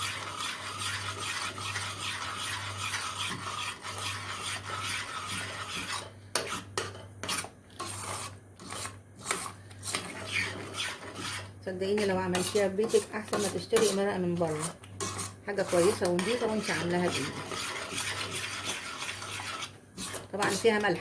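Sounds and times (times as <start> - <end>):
spoon stirring and scraping in a pot: 0.0 - 21.0.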